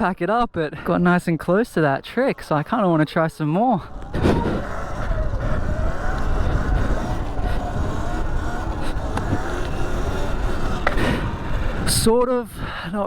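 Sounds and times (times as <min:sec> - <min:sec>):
rumble of wind and tyres: 0:00.0 - 0:13.0
electric motor whine: 0:01.5 - 0:12.2.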